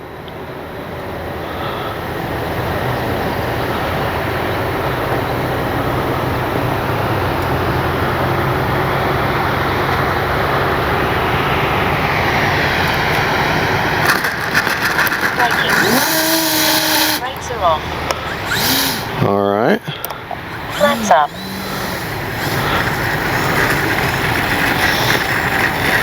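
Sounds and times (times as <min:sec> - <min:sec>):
rushing noise of model airplane: 0:00.1 - 0:26.0
electric motor whine: 0:01.0 - 0:19.4, 0:20.0 - 0:26.0.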